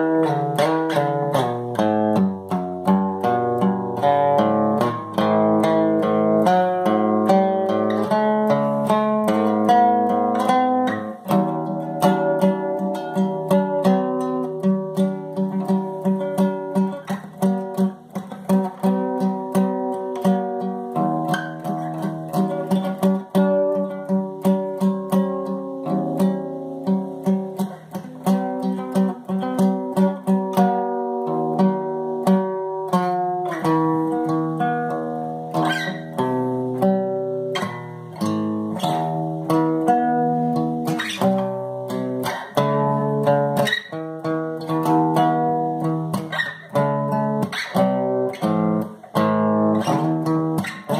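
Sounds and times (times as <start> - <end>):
solo acoustic guitar: 0.0 - 50.9.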